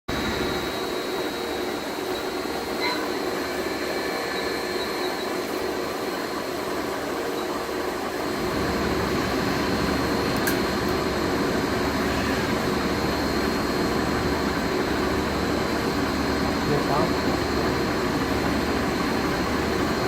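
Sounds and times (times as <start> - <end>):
machinery hum with high whine: 0.1 - 20.0.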